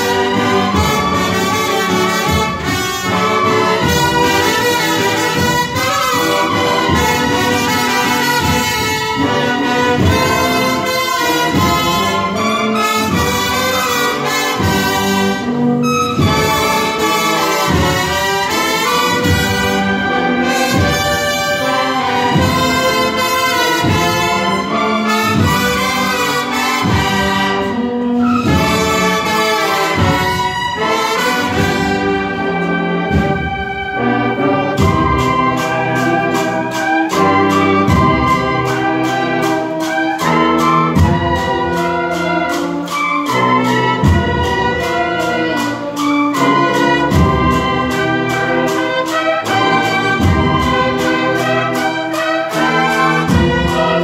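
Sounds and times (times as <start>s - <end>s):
brass band playing march: 0.0s - 54.0s.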